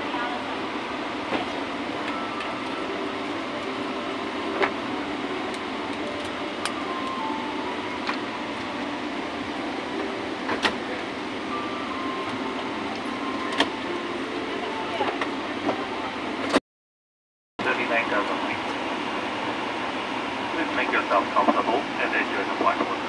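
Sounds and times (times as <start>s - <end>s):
airliner cabin noise: 0.0s - 16.6s, 17.6s - 23.0s.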